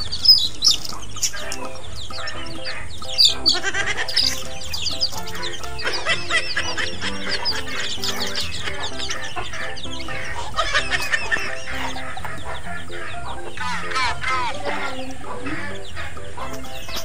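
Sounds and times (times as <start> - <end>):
background music: 0.0 - 17.0
chicks peeping: 0.0 - 17.0.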